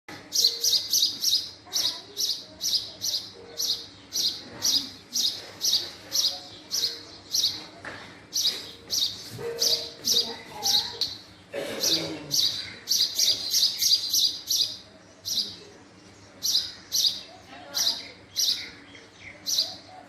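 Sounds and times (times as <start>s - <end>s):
sparrow chirping: 0.1s - 20.0s.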